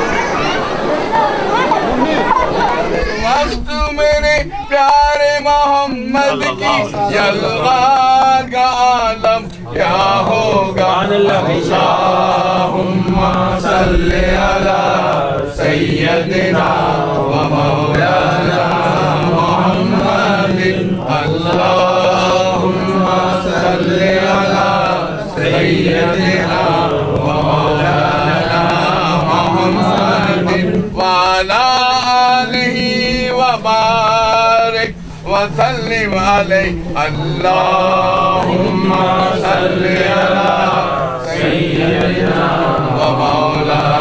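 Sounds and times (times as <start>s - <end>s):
group chanting: 0.0s - 3.8s, 4.4s - 44.0s.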